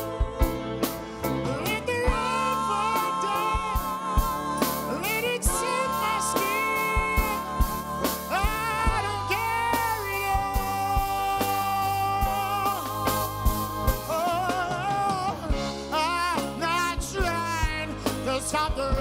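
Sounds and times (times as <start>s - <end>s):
live band playing soul song: 0.0s - 19.0s
person singing with vibrato: 0.0s - 19.0s.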